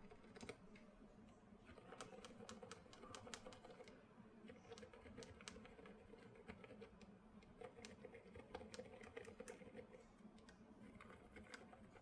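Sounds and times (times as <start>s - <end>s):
mechanical keyboard clicks: 0.0s - 0.7s, 1.7s - 3.9s, 4.5s - 9.8s, 10.4s - 12.0s.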